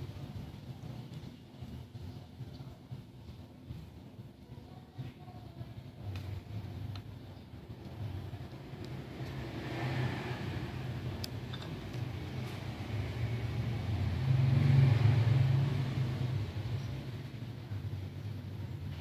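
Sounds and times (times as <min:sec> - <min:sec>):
low engine-like rumble: 0:00.0 - 0:19.0.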